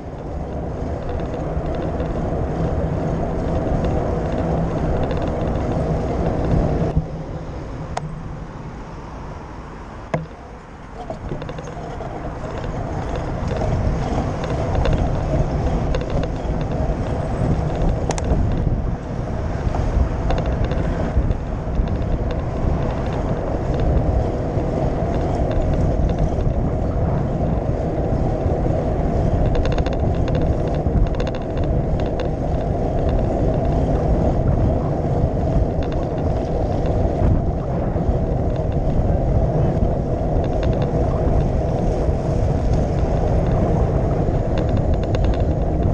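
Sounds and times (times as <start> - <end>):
wind noise on microphone: 0.0 - 45.9.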